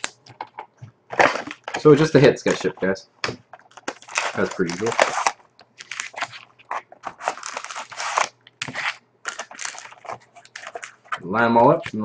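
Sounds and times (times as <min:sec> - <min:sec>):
foil packs crinkling and scraping: 0:01.1 - 0:02.9, 0:03.5 - 0:12.0.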